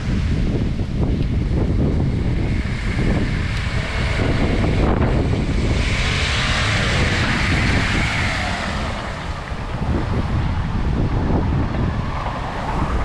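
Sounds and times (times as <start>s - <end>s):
wind buffeting microphone: 0.0s - 13.0s
car engine running: 1.5s - 13.0s.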